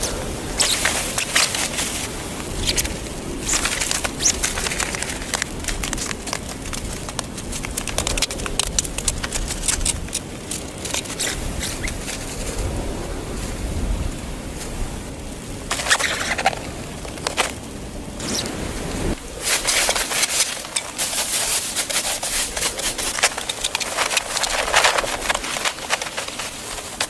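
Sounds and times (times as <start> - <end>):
scraping crackling handwork: 0.0 - 12.6, 15.7 - 27.0.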